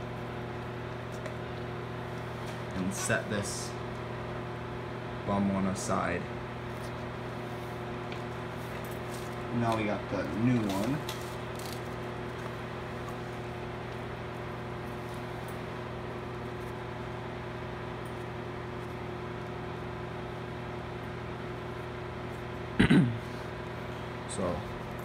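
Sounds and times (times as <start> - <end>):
steady machine hum: 0.0 - 25.0.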